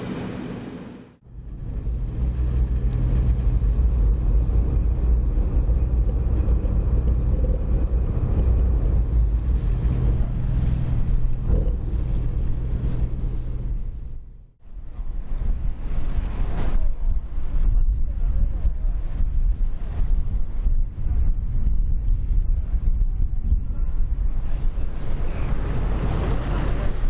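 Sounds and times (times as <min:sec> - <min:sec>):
ferry engine rumbling: 0:00.0 - 0:21.2, 0:22.5 - 0:27.0.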